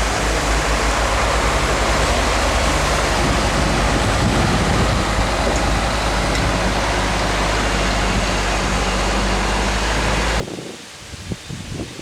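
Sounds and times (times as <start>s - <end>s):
jet engines rushing: 0.0s - 10.5s.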